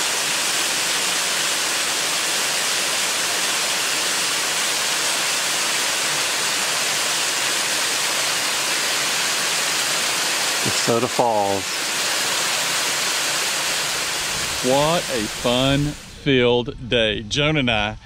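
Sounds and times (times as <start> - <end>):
waterfall rushing: 0.0 - 16.2.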